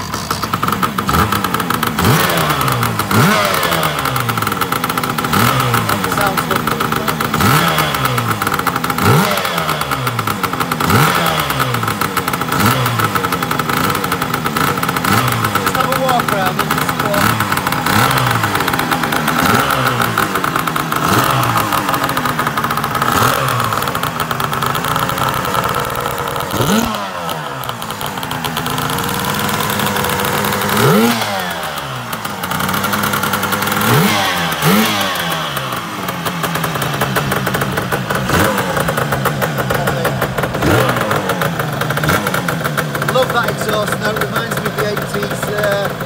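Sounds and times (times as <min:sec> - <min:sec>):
scooter engine revving: 0:00.0 - 0:46.0.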